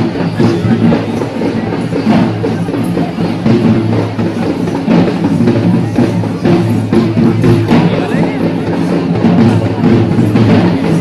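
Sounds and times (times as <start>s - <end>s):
loud drum strikes: 0.0s - 11.0s.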